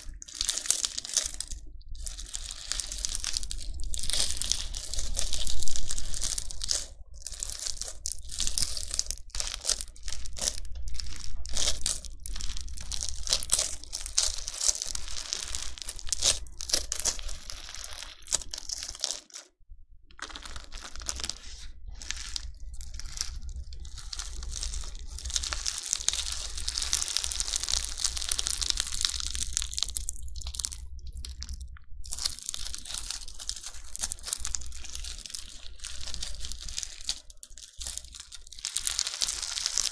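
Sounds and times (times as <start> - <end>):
slime crackling and crunching: 0.0 - 39.9.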